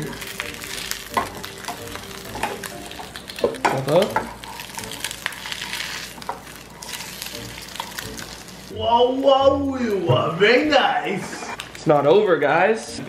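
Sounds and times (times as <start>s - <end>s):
eggs sizzling in a frying pan: 0.0s - 13.0s.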